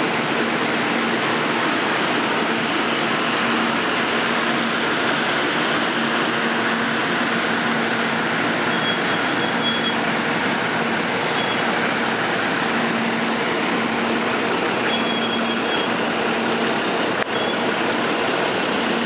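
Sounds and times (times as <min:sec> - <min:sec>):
vehicle running noise: 0:00.0 - 0:19.0.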